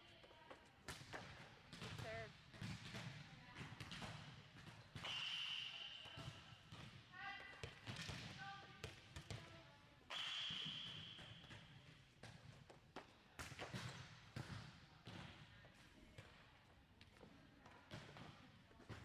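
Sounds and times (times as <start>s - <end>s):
volleyballs hit and bouncing: 0.2s - 19.0s.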